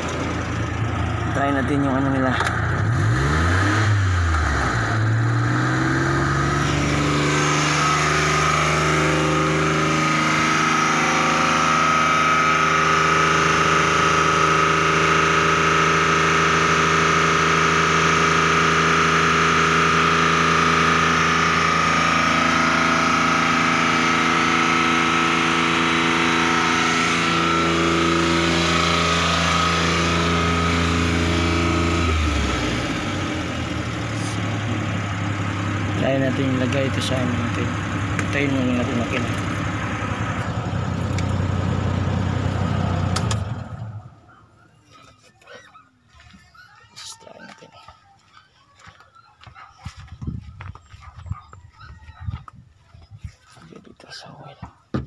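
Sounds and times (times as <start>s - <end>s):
vehicle engine revving: 0.0s - 44.4s.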